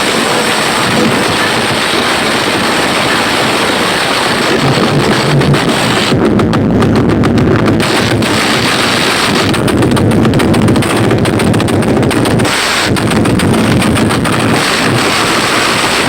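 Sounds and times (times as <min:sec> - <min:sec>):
distorted bass-heavy music: 0:00.0 - 0:16.0.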